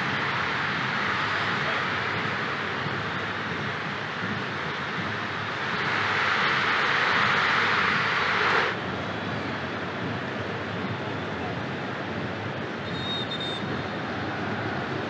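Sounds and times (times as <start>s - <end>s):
stadium crowd roaring: 0.0s - 15.0s.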